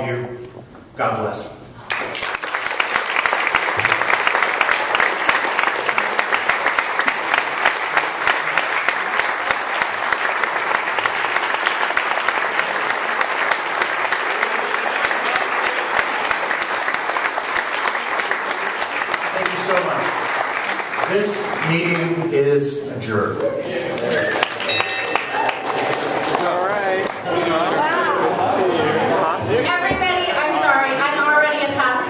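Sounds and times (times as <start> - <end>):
crowd applauding: 1.9 - 22.6, 23.4 - 29.8.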